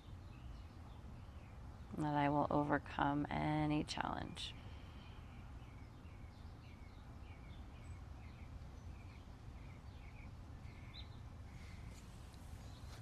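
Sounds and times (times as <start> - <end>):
faint bird chirping: 0.0 - 2.2, 4.4 - 13.0
low steady hum: 0.0 - 13.0.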